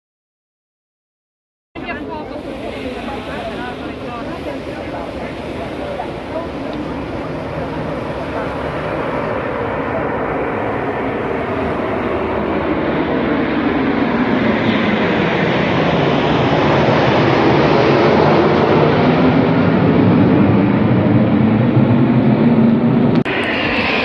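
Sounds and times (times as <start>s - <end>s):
aircraft flying past: 1.8s - 24.0s.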